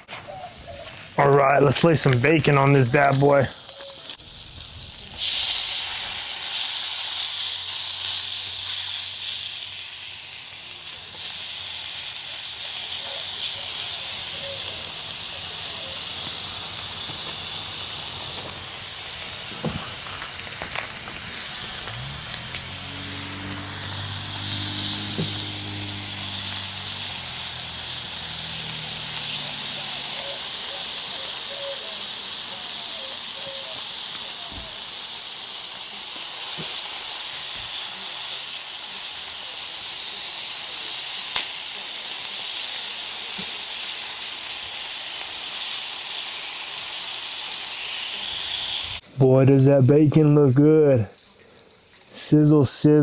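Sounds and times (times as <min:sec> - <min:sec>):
bacon sizzling on a grill: 0:00.0 - 0:53.0.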